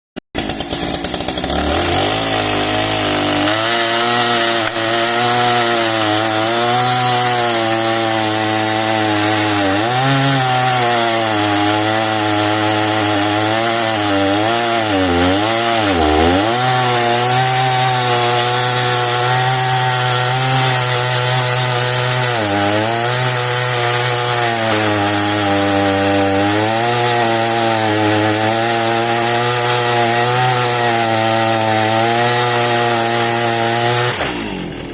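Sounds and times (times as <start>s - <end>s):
chainsaw cutting wood: 0.4s - 34.9s.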